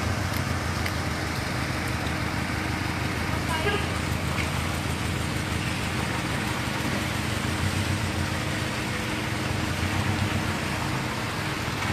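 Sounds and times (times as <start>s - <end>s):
car engines running: 0.0s - 11.9s
steady hiss of rain: 0.0s - 11.9s.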